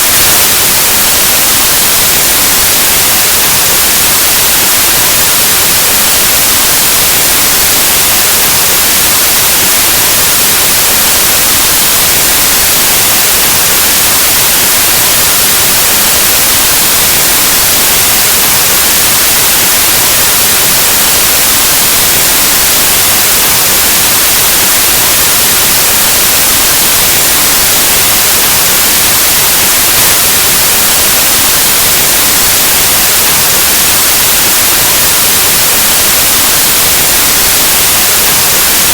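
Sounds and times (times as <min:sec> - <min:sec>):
white noise static hiss: 0:00.0 - 0:38.9.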